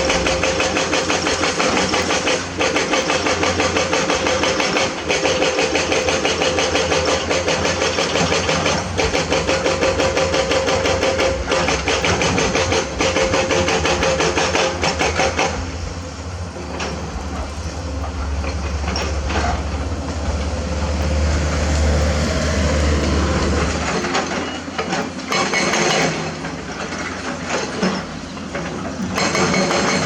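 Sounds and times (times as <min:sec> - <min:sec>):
metallic clanking and rattling: 0:00.0 - 0:21.6, 0:22.4 - 0:30.0
diesel engine rumbling: 0:00.0 - 0:30.0.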